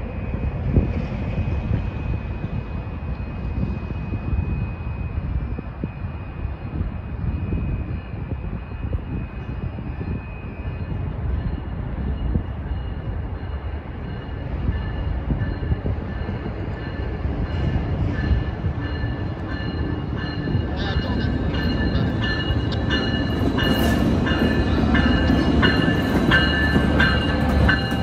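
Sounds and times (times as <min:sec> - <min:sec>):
diesel locomotive rumble: 0:00.0 - 0:28.0.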